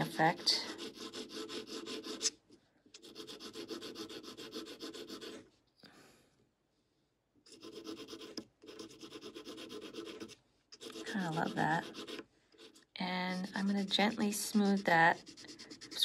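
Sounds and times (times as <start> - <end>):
pencil scratching on paper: 0.0 - 2.4, 3.0 - 5.4, 7.5 - 16.0.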